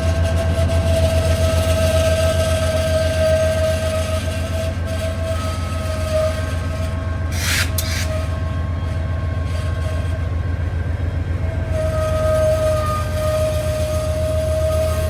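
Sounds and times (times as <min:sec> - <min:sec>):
wheel squeal: 0:00.0 - 0:10.5, 0:11.4 - 0:15.0
freight train rumbling: 0:00.0 - 0:15.0.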